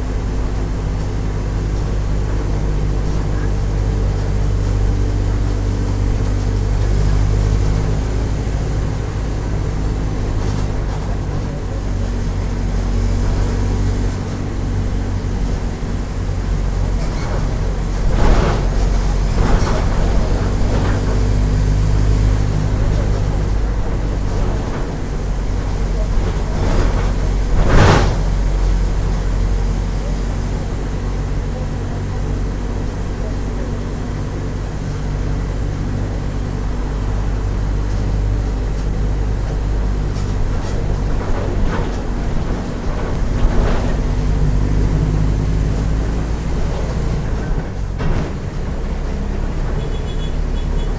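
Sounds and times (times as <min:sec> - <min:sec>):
bus diesel engine droning: 0:00.0 - 0:50.9.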